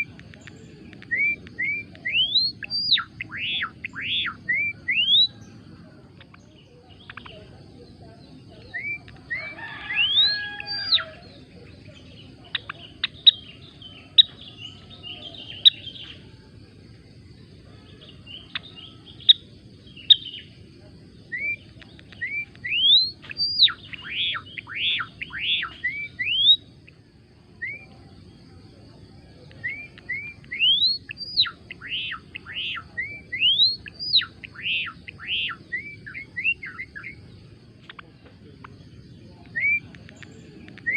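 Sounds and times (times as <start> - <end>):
sparrow singing: 0.0 - 40.9.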